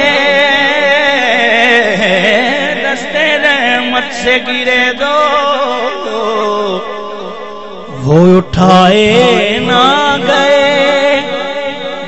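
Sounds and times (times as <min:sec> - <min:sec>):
man singing through loudspeakers: 0:00.0 - 0:12.0.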